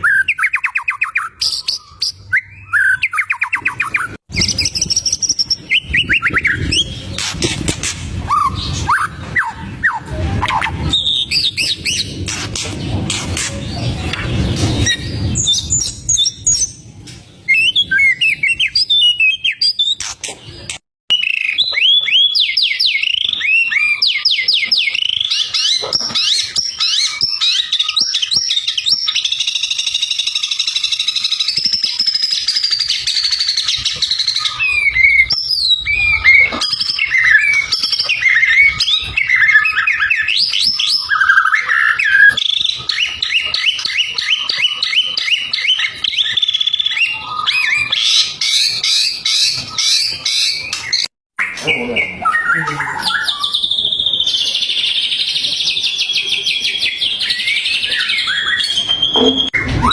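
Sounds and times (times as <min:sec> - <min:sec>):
bird singing trills and whistles: 0:00.0 - 0:16.9, 0:17.5 - 0:59.9.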